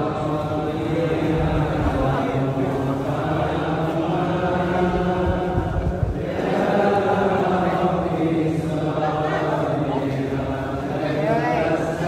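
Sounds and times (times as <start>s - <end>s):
men chanting in unison: 0.0s - 12.0s.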